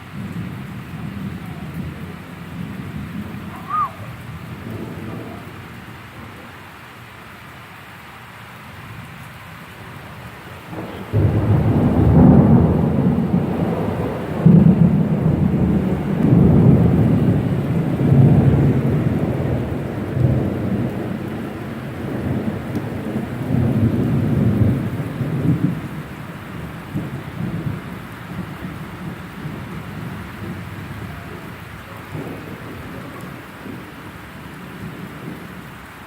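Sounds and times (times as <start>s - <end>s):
thunder rumbling: 0.0s - 7.1s, 9.7s - 36.0s
steady rain: 0.0s - 36.0s.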